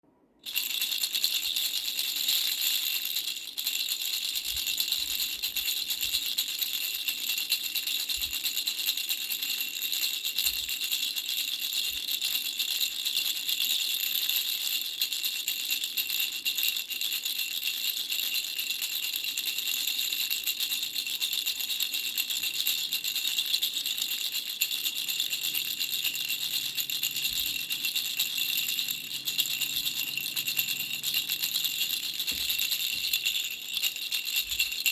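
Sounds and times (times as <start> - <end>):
toy rattle bells jingling: 0.4 - 34.9.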